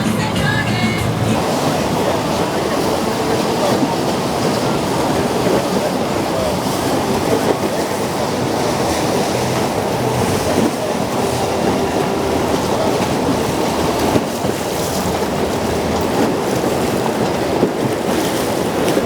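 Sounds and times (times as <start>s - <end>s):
water rushing past boat: 0.0s - 19.0s
wind: 0.0s - 19.0s.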